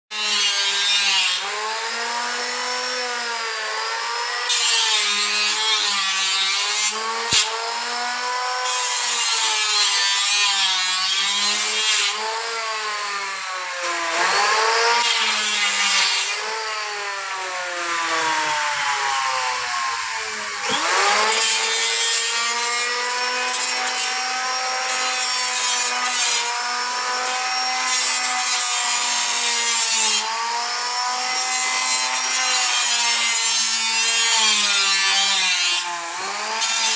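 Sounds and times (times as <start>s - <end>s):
grating wood cutting noise: 0.1s - 36.9s
power tool motor whine: 0.2s - 36.9s.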